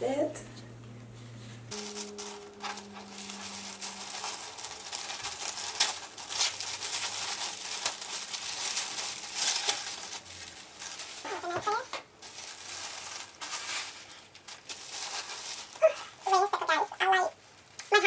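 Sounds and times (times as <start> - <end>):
sharp crackles: 1.7 - 16.6
packaging rustling and crinkling: 1.7 - 18.0.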